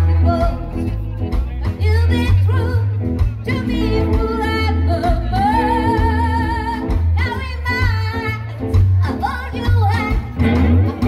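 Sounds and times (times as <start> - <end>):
woman singing: 0.0 - 1.0, 1.7 - 11.0
drums: 0.0 - 11.0
electric guitar: 0.0 - 11.0
upright double bass: 0.0 - 11.0.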